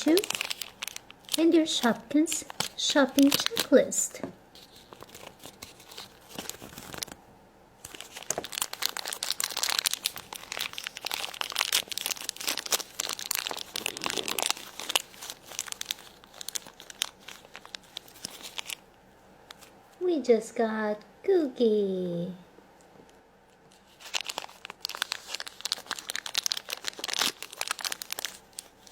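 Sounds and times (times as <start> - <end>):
plastic packaging crinkling and tearing: 0.0 - 7.2, 7.8 - 19.7, 23.7 - 28.9.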